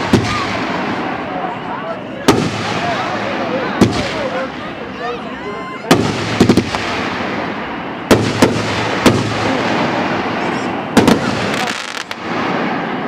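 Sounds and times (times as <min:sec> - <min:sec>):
fireworks booming: 0:00.0 - 0:05.0, 0:05.8 - 0:13.0.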